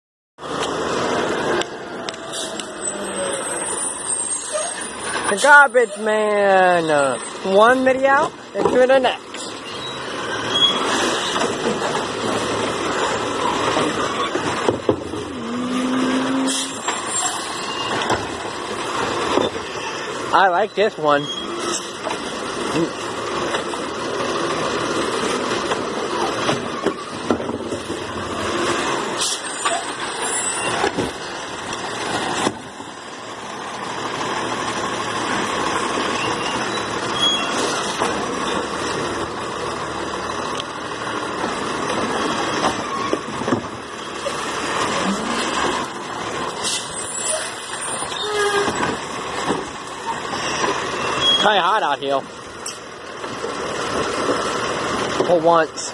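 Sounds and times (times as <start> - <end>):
garbage truck running: 0.4 - 55.9.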